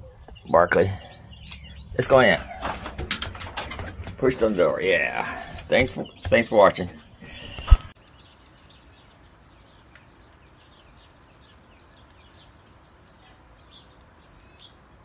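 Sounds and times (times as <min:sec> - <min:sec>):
faint rapid bird chirping: 0:00.0 - 0:03.0, 0:04.2 - 0:15.0.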